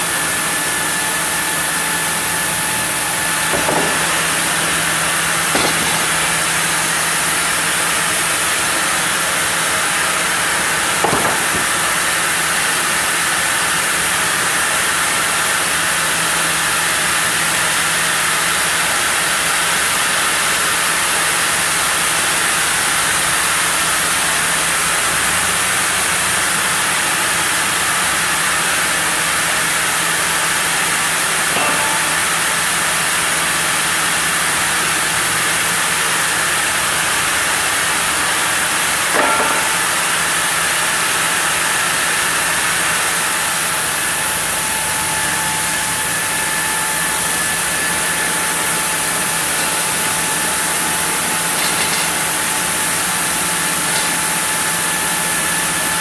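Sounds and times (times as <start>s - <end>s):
sawmill machinery milling log: 0.2s - 15.4s, 24.4s - 56.0s.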